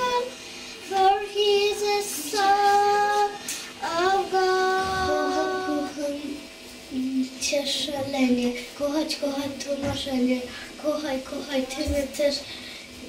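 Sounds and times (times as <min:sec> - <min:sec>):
girl singing into microphone: 0:00.0 - 0:12.7.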